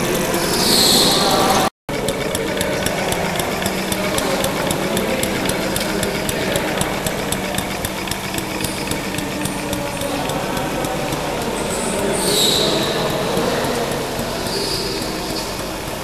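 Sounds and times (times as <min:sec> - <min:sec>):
small engine ticking hum: 0:00.0 - 0:16.0.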